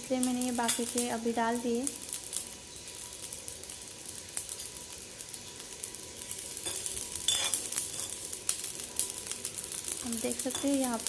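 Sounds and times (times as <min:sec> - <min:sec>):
seeds crackling and sizzling: 0:00.0 - 0:11.0.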